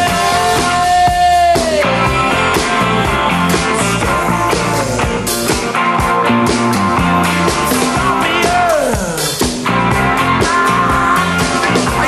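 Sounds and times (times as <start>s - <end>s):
rock music with bending held note: 0.0s - 12.0s.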